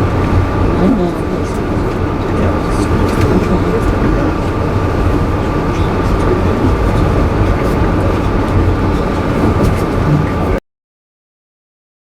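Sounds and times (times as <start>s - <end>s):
train car rumbling on track: 0.0s - 10.6s.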